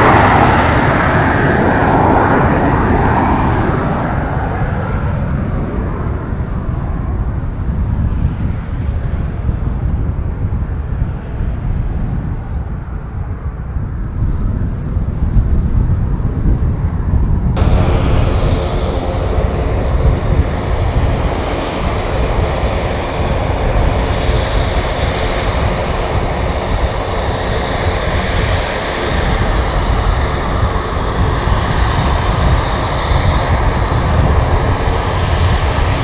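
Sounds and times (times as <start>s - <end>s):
aircraft engines roaring: 0.0s - 36.0s.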